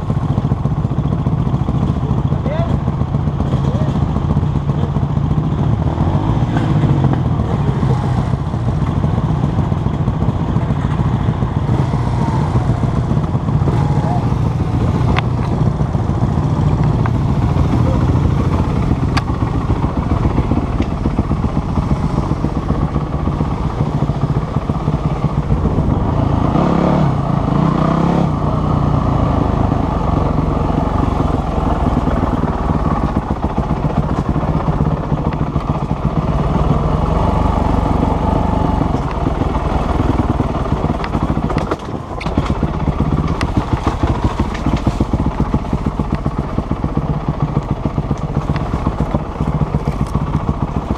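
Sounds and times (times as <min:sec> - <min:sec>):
dirt bike engine revving: 0:05.3 - 0:50.9.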